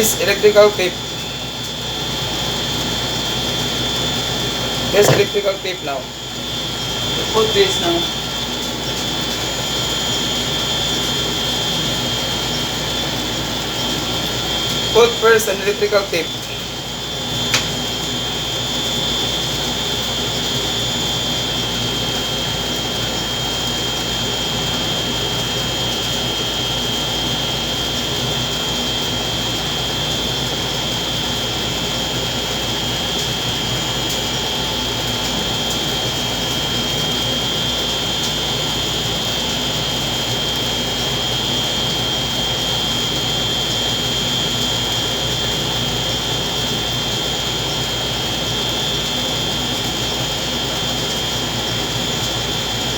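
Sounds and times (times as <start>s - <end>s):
machine whirring with high whine: 0.0s - 52.9s.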